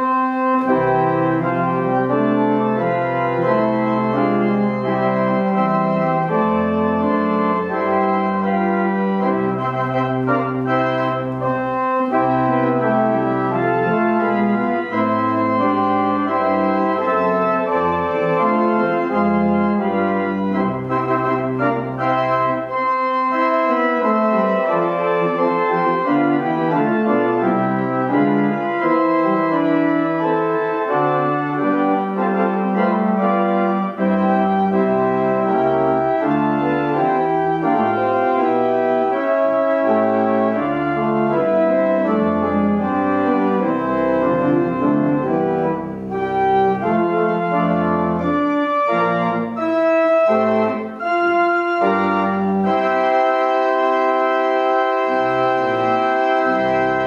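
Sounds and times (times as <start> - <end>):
church organ chords: 0.0 - 57.0.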